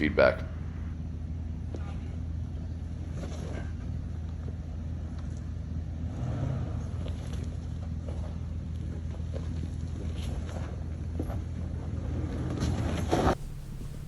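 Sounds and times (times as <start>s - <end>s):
off-road vehicle engine rumbling: 0.0s - 14.0s.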